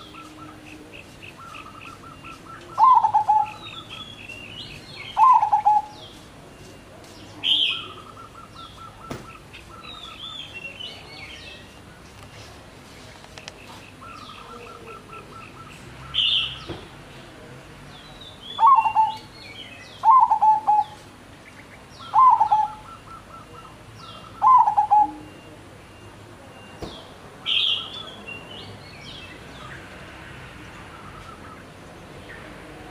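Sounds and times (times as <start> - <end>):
caged bird calling: 0.0 - 17.1, 17.9 - 32.9
birds chirping: 0.0 - 32.9.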